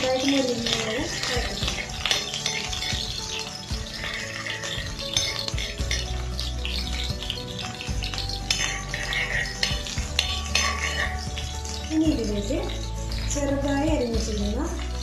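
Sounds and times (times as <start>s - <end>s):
background music: 0.0s - 15.0s
chillies frying in oil: 0.0s - 15.0s
utensil clinking against pan: 0.0s - 15.0s.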